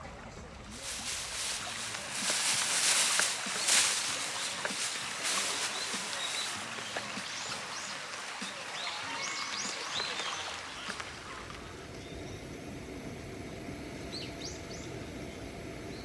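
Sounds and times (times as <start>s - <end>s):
rustling outdoor noise: 0.5s - 16.0s
small birds chirping: 0.7s - 11.0s, 11.6s - 16.0s.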